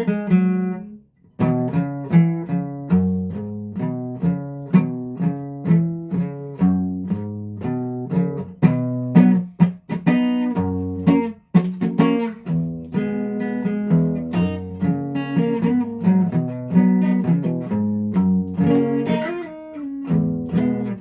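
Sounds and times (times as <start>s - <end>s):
guitar strumming: 0.0s - 21.0s.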